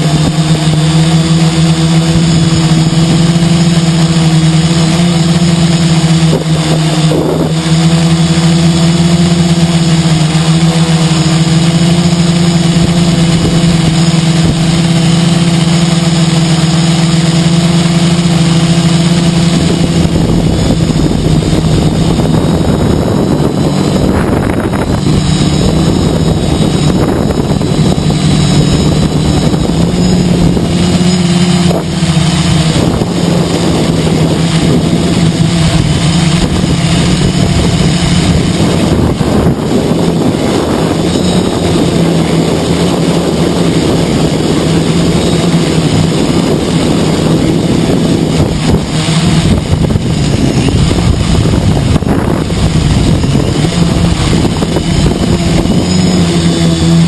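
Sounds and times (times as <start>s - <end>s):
drone motors and propellers droning: 0.0s - 57.0s
wind buffeting microphone: 0.0s - 57.0s.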